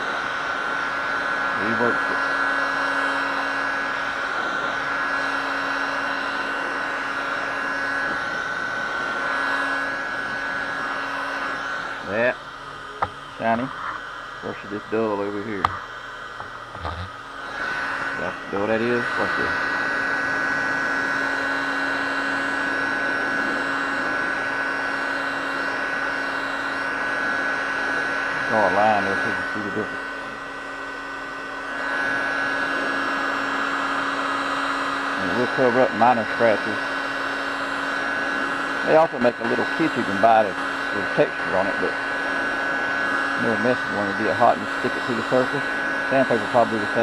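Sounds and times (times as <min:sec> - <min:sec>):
heat gun blowing air: 0:00.0 - 0:47.0.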